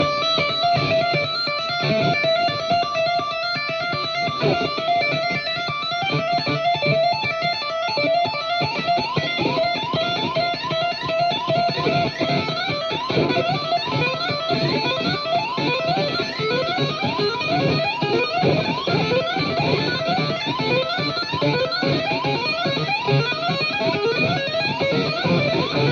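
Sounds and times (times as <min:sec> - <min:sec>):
plucked string instrument music: 0:00.0 - 0:25.9.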